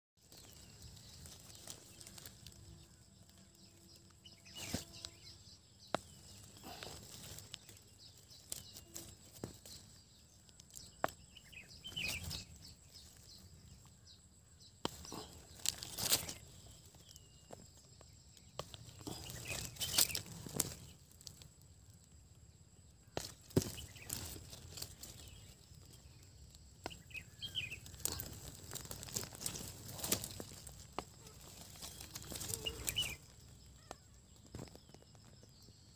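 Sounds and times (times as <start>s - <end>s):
dry leaves and twigs crackling: 0.2s - 35.9s
bird chirps: 0.3s - 21.2s, 23.0s - 35.9s.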